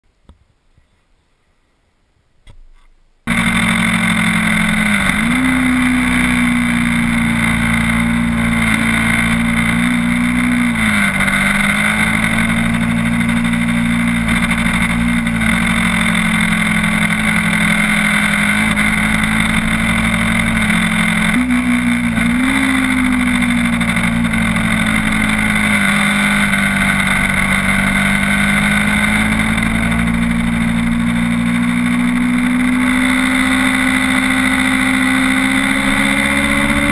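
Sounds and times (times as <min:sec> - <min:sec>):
motorcycle engine running: 0:03.3 - 0:36.9.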